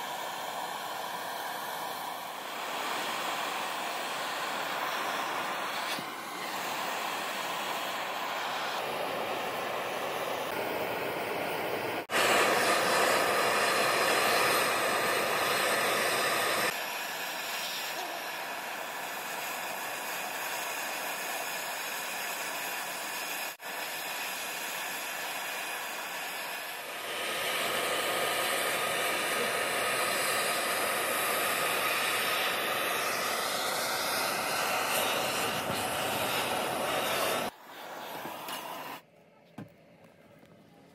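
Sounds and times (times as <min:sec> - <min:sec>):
gas torch hissing: 0:00.0 - 0:39.0.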